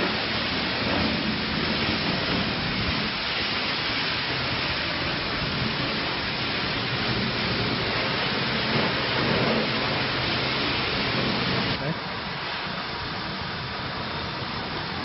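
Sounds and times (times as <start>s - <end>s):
high-pressure water spray hissing: 0.0s - 15.0s.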